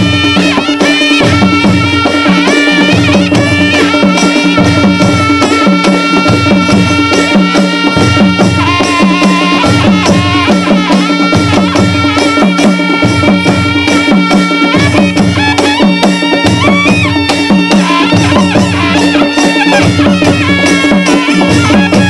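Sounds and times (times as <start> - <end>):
song with drum beat: 0.0 - 22.0.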